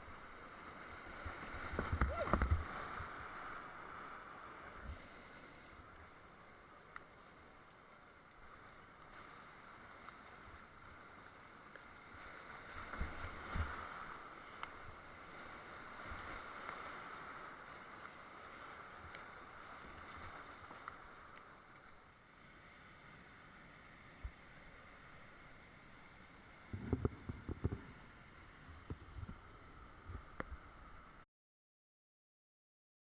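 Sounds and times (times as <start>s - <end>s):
whitewater rushing in creek: 0.0s - 31.2s.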